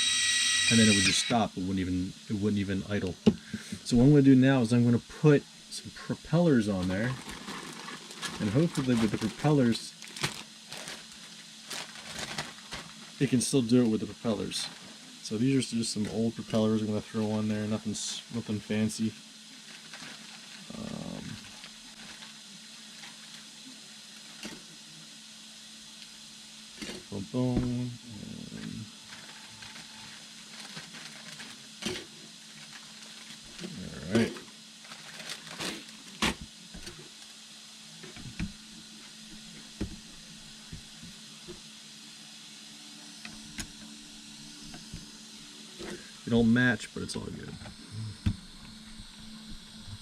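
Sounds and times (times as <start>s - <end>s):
faint hum: 0.0s - 50.0s
steady hiss: 0.0s - 50.0s.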